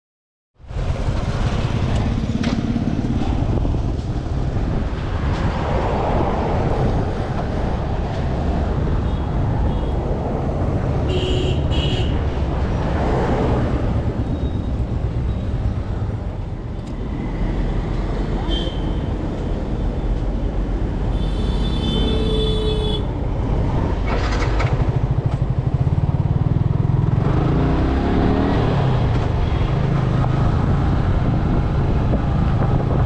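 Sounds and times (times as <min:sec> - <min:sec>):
road and wind rumble: 0:00.6 - 0:33.0.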